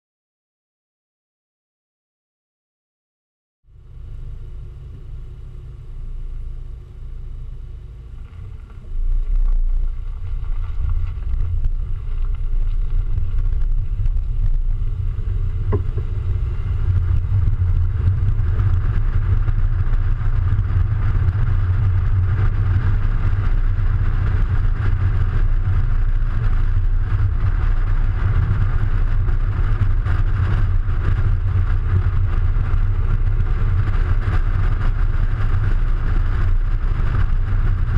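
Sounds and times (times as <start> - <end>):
wind and road noise rumble: 3.7 - 37.9.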